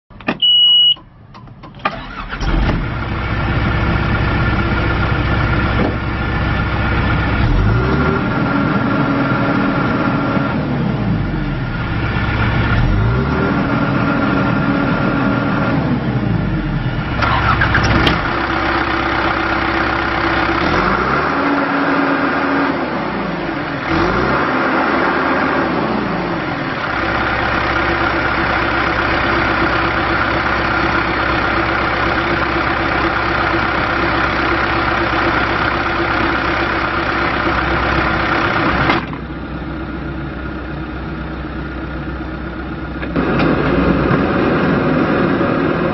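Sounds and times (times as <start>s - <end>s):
diesel engine cranking and starting: 0.1s - 45.9s
diesel engine revving: 1.7s - 45.9s.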